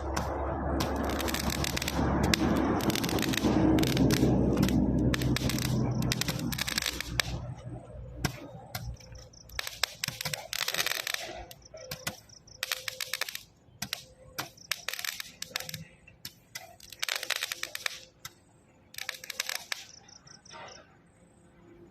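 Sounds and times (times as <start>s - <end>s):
firework crackles: 0.0s - 20.1s.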